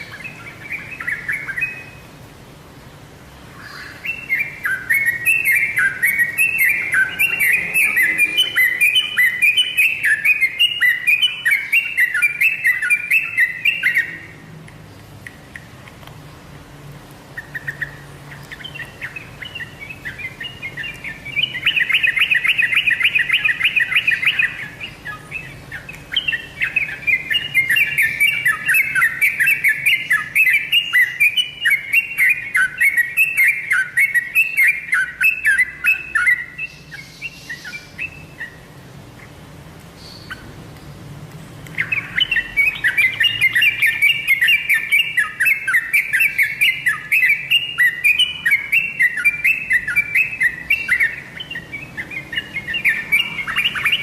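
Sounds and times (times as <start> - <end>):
bird singing chattering notes: 0.0 - 2.2, 3.2 - 16.1, 17.2 - 40.6, 41.5 - 54.0.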